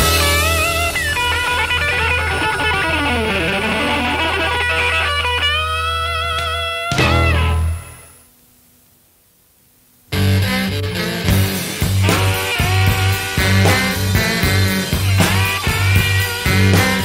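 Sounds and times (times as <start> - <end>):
blues band playing: 0.0 - 8.2, 10.1 - 17.0
electric guitar lead lines: 0.0 - 8.5, 10.1 - 17.0.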